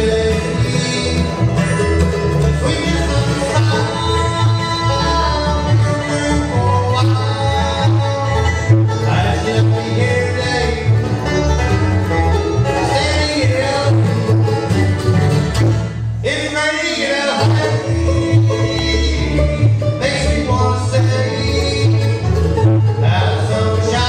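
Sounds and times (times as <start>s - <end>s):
man singing: 0.0s - 11.2s, 12.6s - 14.3s, 16.2s - 22.4s, 23.0s - 24.0s
acoustic guitar: 0.0s - 24.0s
banjo: 0.0s - 24.0s
mandolin: 0.0s - 24.0s
upright bass plucked: 0.0s - 24.0s.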